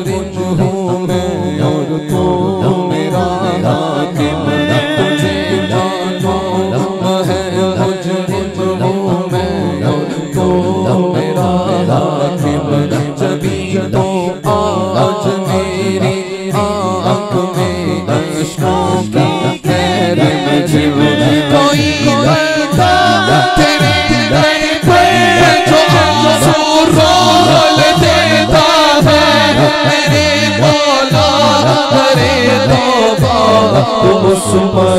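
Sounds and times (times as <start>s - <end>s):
low rhythmic chant: 0.0s - 34.9s
man singing into microphone: 0.0s - 34.9s.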